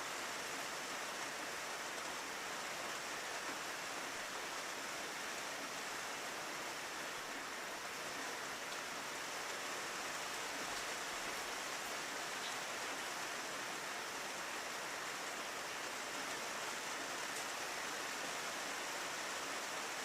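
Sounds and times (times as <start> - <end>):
rain on a window: 0.0 - 20.0.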